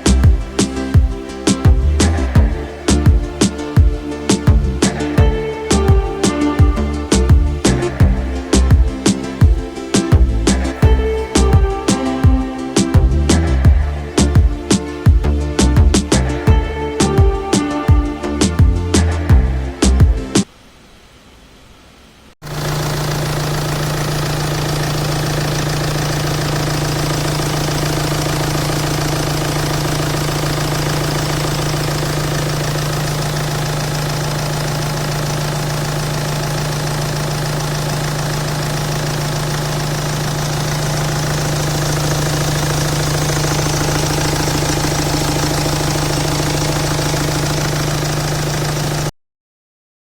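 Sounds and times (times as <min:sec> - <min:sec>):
diesel engine knocking: 0:00.0 - 0:17.3, 0:22.5 - 0:49.1.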